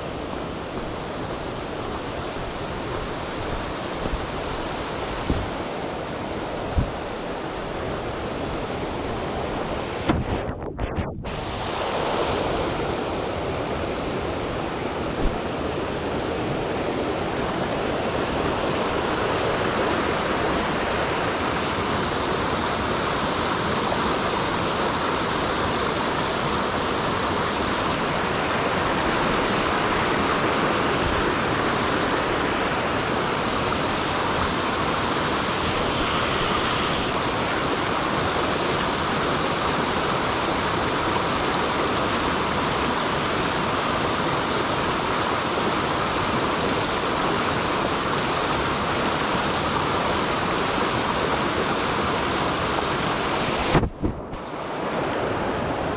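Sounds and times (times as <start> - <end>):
stream water rushing: 0.0 - 10.2, 11.2 - 55.9.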